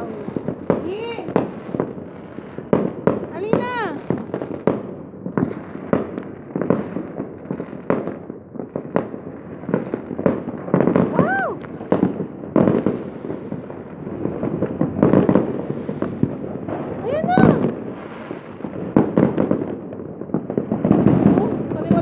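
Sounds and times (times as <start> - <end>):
fireworks bangs and crackling pops: 0.0 - 22.0.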